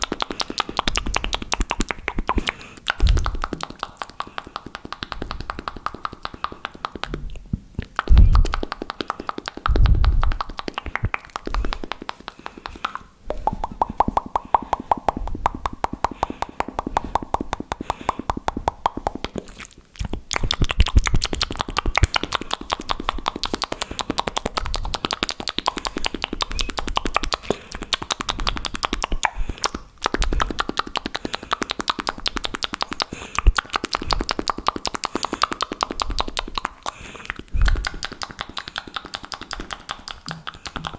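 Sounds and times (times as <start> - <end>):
wet mouth clicking and popping: 0.0 - 40.9.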